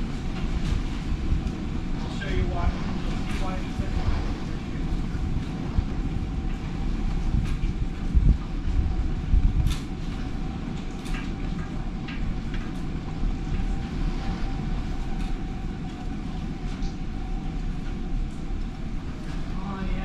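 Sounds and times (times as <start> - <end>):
tornado wind rumble: 0.0 - 20.0.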